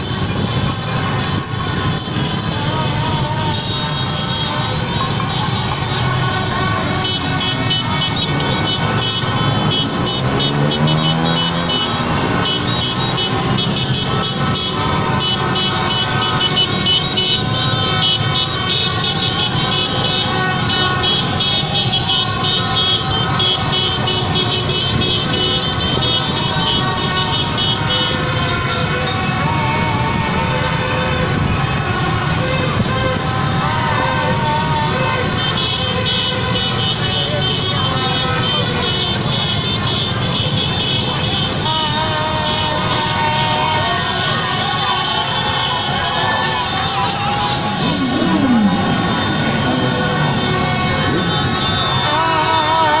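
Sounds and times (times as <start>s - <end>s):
crowd shouting: 0.0s - 53.0s
motorbike engines running: 0.0s - 53.0s
vehicle horns honking: 0.0s - 53.0s.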